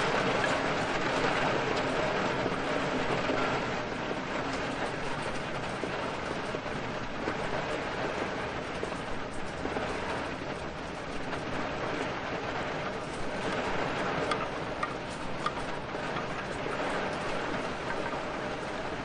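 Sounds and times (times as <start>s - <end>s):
heavy rain: 0.0s - 19.0s
low continuous rumble: 0.0s - 19.0s.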